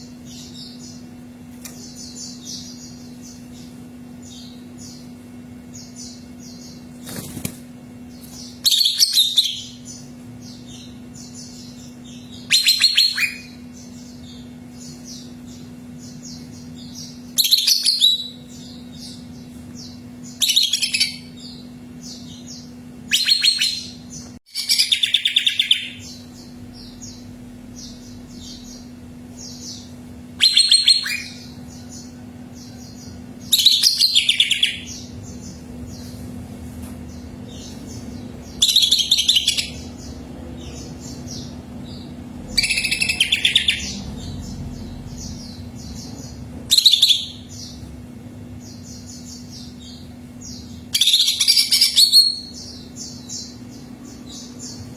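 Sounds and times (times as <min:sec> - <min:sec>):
soft bird chirps: 0:00.0 - 0:47.9, 0:48.5 - 0:54.9
steady low hum: 0:00.0 - 0:54.9.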